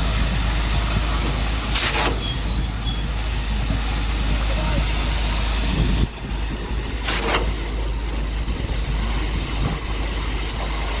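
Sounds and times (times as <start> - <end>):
pump truck low rumble: 0.0 - 11.0.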